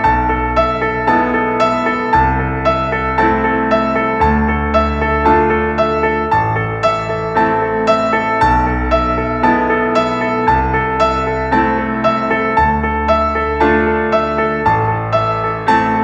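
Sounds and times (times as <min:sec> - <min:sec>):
low bass: 0:00.0 - 0:16.0
piano notes: 0:00.0 - 0:16.0.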